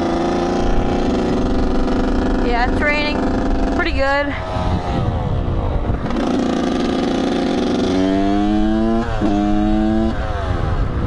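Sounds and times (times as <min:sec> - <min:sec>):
dirt bike engine shifting gears: 0:00.0 - 0:11.0.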